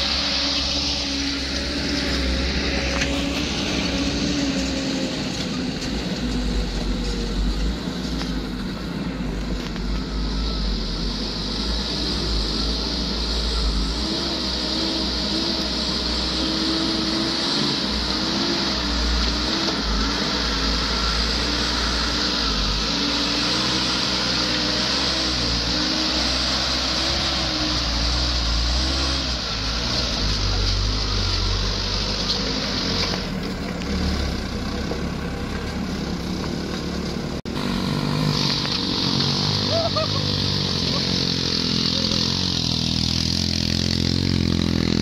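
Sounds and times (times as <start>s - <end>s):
truck diesel engine labouring: 0.0s - 45.0s.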